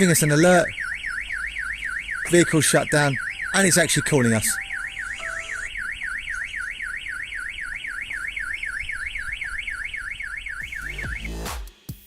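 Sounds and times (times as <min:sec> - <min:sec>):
warbling vehicle alarm siren: 0:00.0 - 0:11.5.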